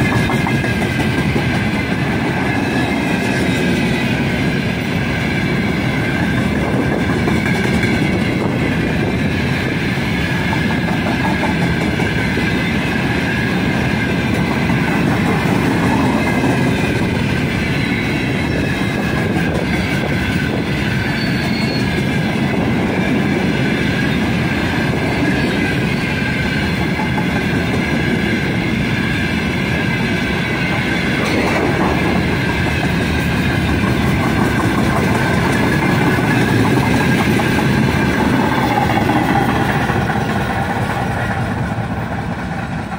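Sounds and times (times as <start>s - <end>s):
steel wheels rumbling on rails: 0.0s - 42.9s.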